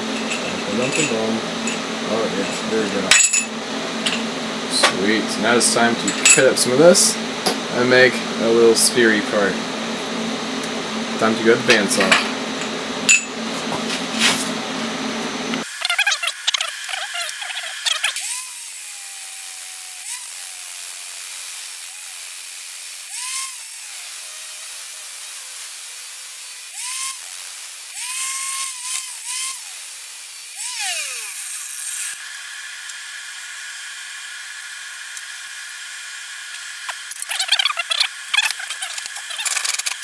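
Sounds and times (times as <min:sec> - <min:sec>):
bandsaw motor whining: 0:00.0 - 0:40.0.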